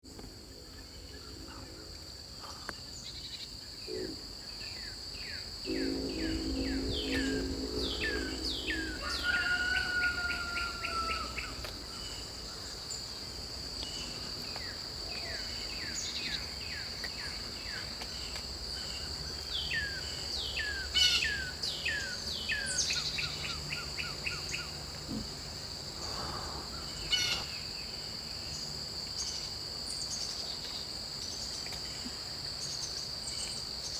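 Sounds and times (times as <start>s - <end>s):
crickets droning: 0.0s - 33.9s.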